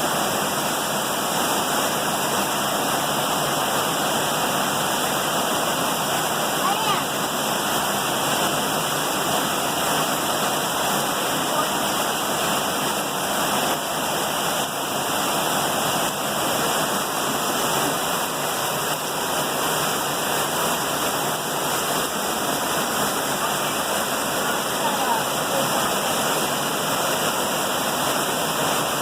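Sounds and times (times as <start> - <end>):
heavy rain: 0.0 - 29.0
rushing runoff water: 0.0 - 29.0.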